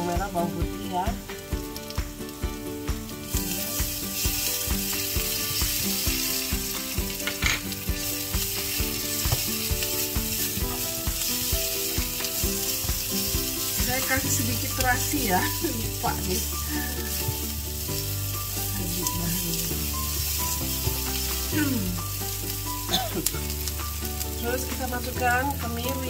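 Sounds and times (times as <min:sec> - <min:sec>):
food sizzling in hot oil: 0:00.0 - 0:26.0
spatula stirring in a pan: 0:03.3 - 0:24.5.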